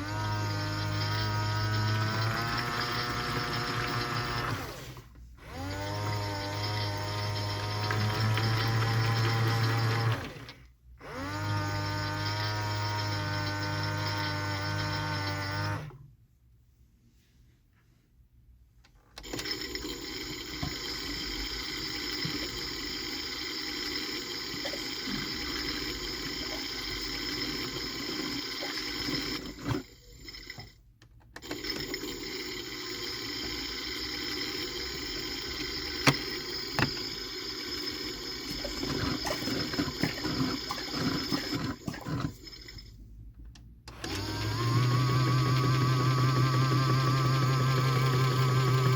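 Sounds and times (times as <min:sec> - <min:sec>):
washing machine drain pump: 0:00.0 - 0:16.0, 0:19.2 - 0:30.8, 0:31.4 - 0:43.0, 0:43.9 - 0:48.9.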